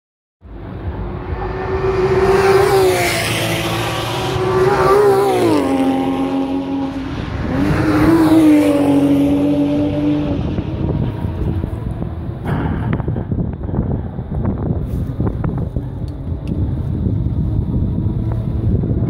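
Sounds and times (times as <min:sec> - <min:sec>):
race car engines passing: 0:00.4 - 0:19.0.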